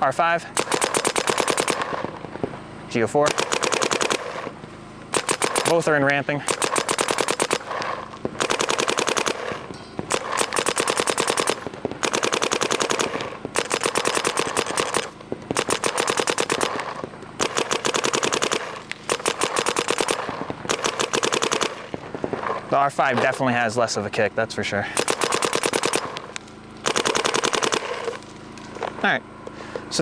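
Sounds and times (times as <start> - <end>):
paintball markers firing rapidly: 0.5 - 23.7, 24.9 - 29.0.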